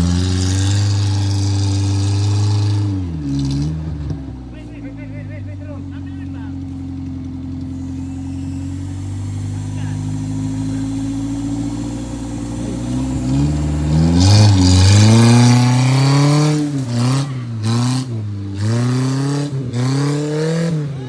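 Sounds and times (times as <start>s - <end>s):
engine idling and revving: 0.0s - 21.0s.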